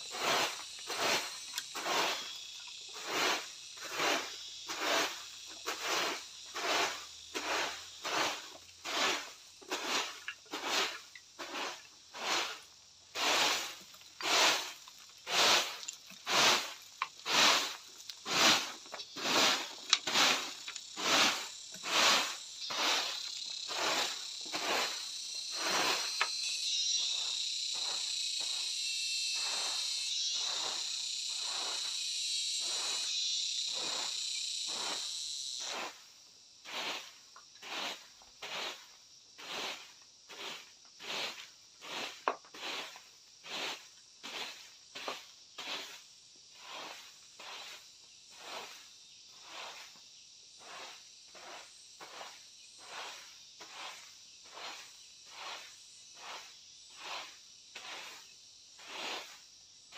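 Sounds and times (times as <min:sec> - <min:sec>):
insects humming: 0:00.0 - 0:59.9.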